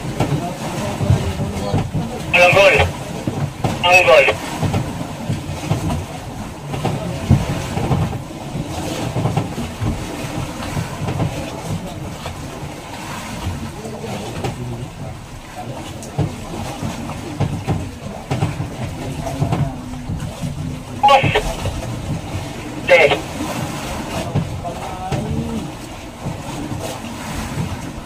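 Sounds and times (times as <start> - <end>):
boat engine rumbling: 0.0 - 28.0.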